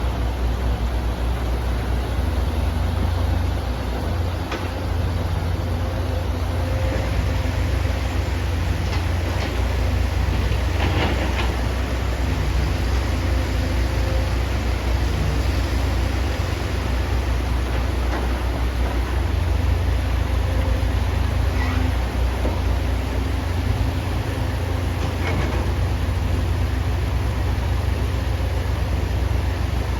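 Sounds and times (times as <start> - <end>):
excavator diesel engine rumbling: 0.0 - 29.9.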